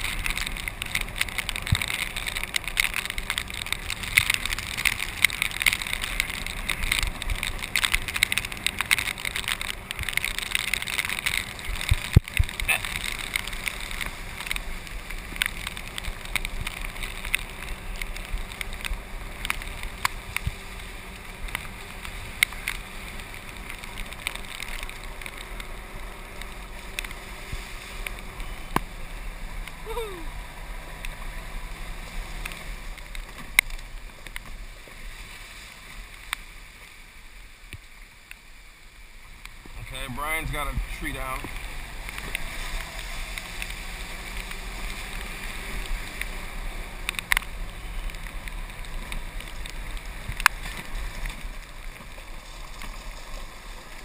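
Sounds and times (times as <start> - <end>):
small ticks and splashes: 0.0 - 54.0
tyres hissing on wet ground: 0.0 - 54.0
wind: 0.0 - 54.0.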